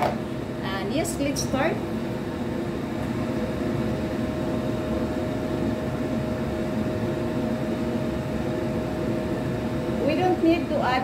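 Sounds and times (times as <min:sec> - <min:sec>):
fan whirring hum: 0:00.0 - 0:11.0.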